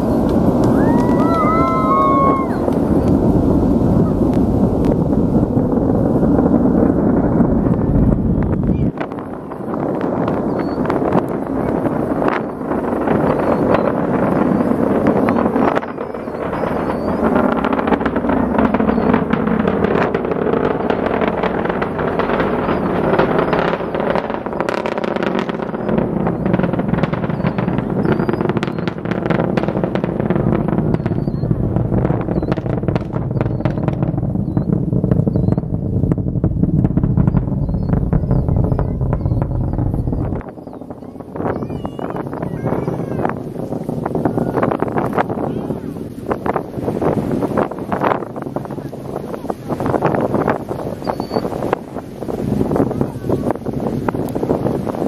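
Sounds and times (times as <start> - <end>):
distant rocket launch rumble: 0.0 - 55.0.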